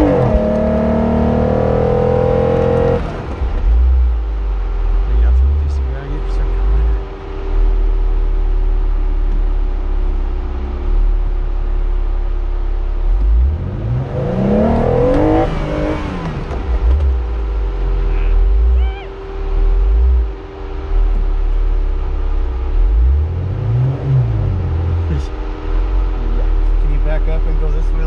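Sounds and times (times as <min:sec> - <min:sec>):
car engine running and revving: 0:00.0 - 0:28.0.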